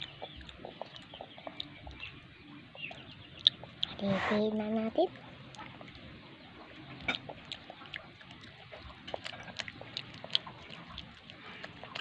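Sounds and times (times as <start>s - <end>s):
child chewing fries: 0.0s - 12.0s.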